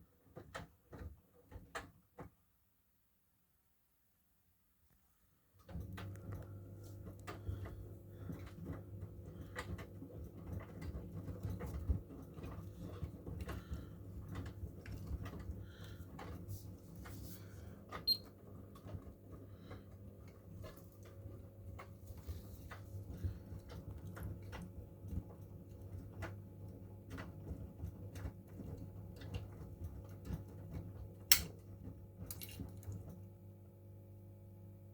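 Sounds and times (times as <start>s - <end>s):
washing machine hum: 0.0s - 2.6s, 5.5s - 34.9s.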